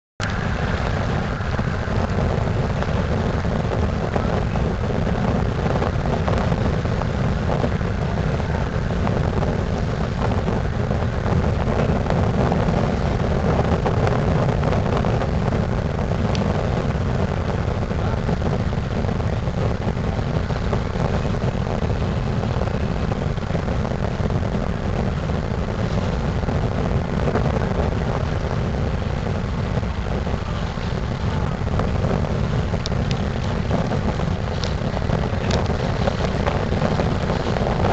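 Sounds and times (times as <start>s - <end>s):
ship engines rumbling: 0.2s - 37.9s
wind on microphone: 0.2s - 37.9s.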